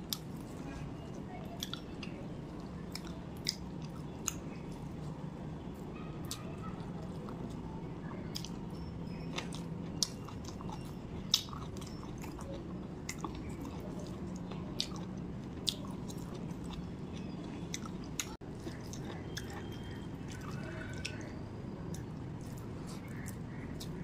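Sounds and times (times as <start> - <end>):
person chewing food: 0.1 - 5.1, 8.3 - 24.0.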